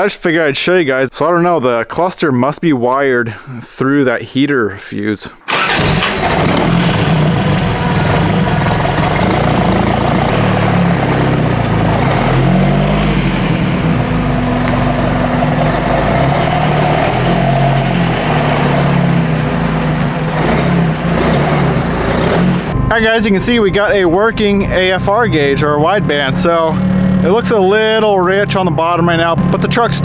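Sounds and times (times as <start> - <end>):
truck engine wavering in pitch: 5.5 - 30.0.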